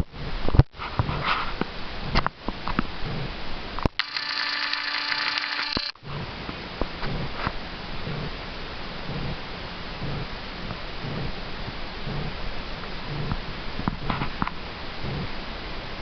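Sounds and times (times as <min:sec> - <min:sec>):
steady hiss with low hum: 0:00.0 - 0:16.0.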